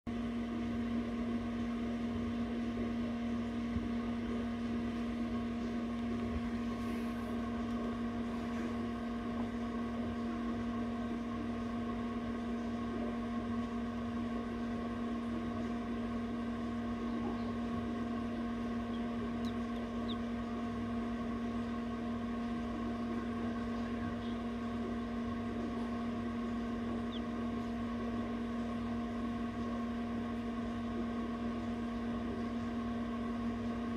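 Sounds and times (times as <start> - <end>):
incubator fan humming: 0.1 - 33.9.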